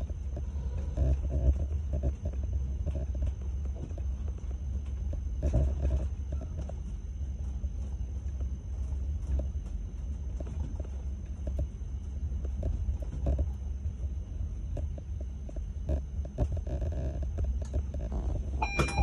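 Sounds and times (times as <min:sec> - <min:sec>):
faint high whine: 0:00.0 - 0:19.0.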